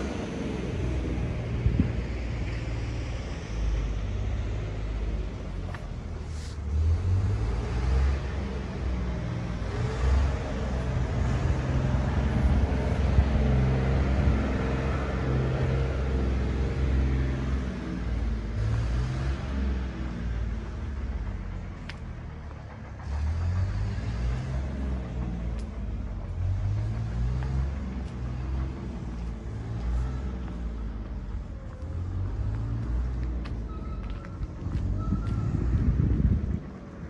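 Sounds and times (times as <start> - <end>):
engine rumbling: 0.0 - 37.0.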